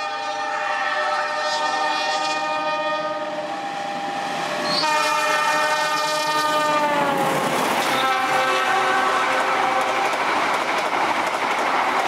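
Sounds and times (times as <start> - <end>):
locomotive air horn blasts: 0.0 - 10.0
train rushing rumble: 1.8 - 12.0.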